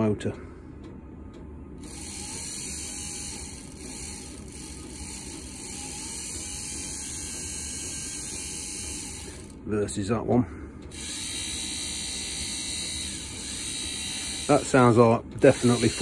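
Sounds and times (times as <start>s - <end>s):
blower motor humming: 0.0s - 16.0s.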